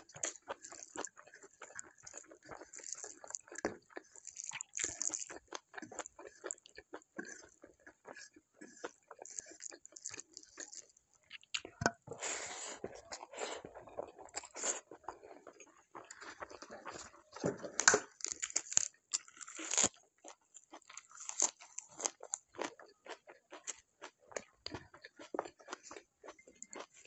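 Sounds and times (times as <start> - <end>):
crunchy wet chewing: 0.0 - 12.0, 12.8 - 27.0.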